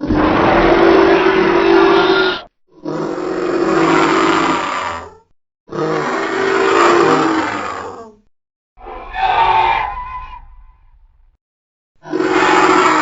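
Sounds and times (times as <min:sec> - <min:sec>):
raspy creature calls: 0:00.0 - 0:08.2, 0:08.8 - 0:10.8, 0:12.0 - 0:13.0.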